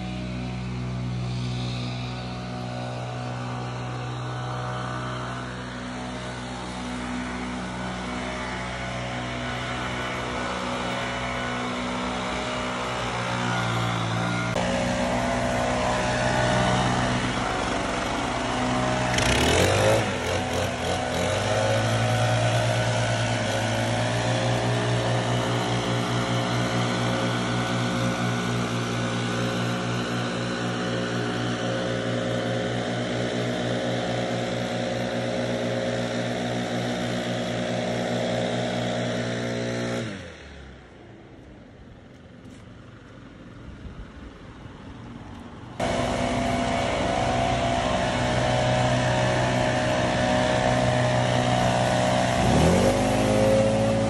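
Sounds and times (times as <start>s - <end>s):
leaf blower engine droning: 0.0s - 54.0s.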